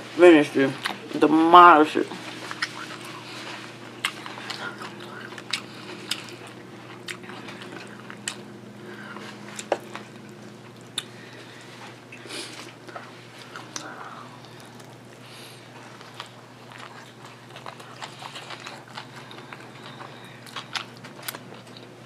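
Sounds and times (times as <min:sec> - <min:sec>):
faint low hum: 0:00.0 - 0:22.0
person chewing sandwich: 0:02.1 - 0:22.0.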